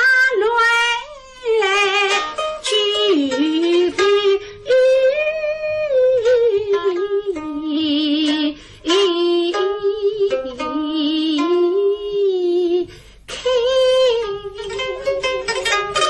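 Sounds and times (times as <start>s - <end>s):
woman singing slow melody: 0.0s - 15.3s
plucked lute accompaniment: 0.0s - 16.0s.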